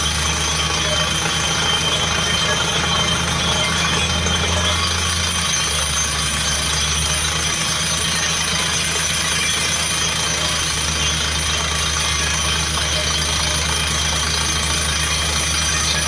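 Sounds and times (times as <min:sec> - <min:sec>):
drilling rig engine running: 0:00.0 - 0:16.0.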